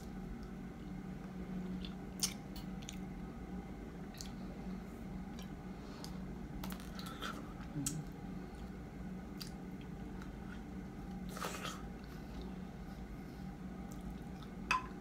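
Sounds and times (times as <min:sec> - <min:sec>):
steady low hum: 0:00.0 - 0:15.0
soft fruit chewing: 0:01.6 - 0:03.2, 0:04.0 - 0:14.6.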